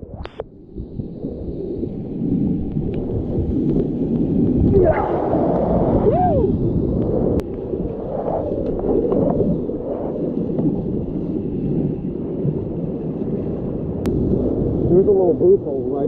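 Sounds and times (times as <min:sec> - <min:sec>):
whitewater roaring and splashing: 0:01.4 - 0:16.0.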